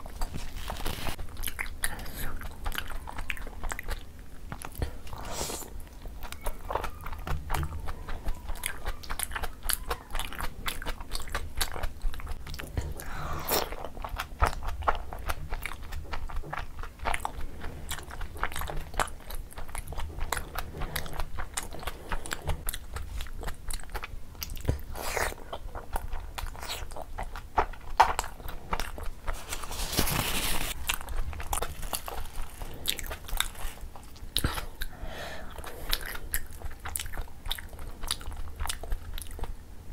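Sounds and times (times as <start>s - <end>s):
person chewing soft food: 0.0s - 39.9s.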